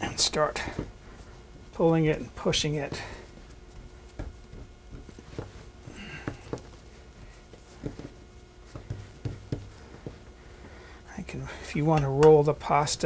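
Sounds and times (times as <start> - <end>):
hands patting dough: 0.0 - 10.9, 11.5 - 13.0.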